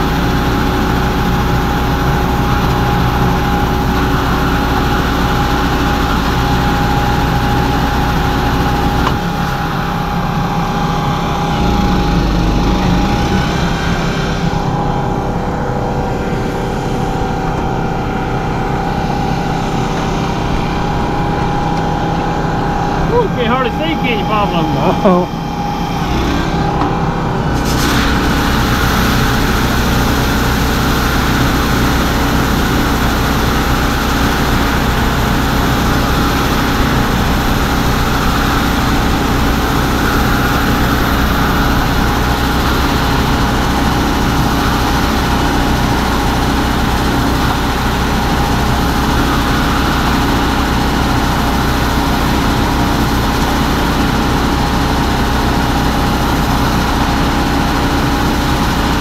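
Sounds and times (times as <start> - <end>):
tractor engine droning: 0.0 - 59.0.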